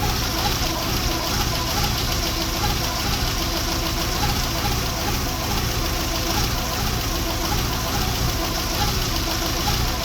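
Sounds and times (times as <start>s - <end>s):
engine knocking noise: 0.0s - 10.0s.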